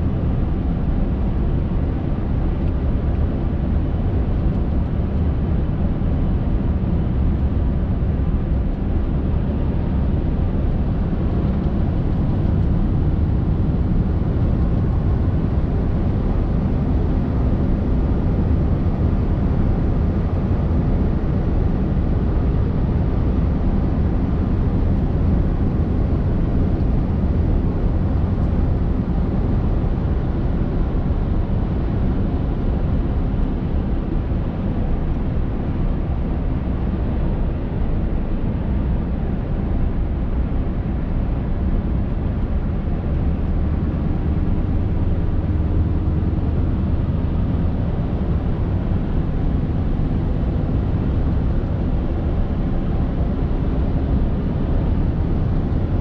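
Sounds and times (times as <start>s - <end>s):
road noise on snow: 0.0s - 56.0s.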